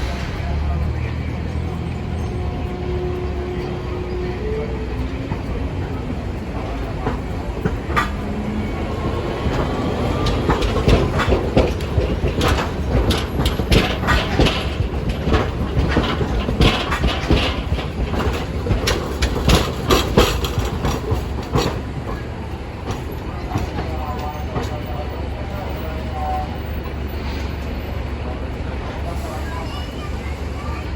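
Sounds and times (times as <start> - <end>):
streetcar rumble: 0.0 - 30.9
wheels clicking over rail joints: 0.0 - 30.9.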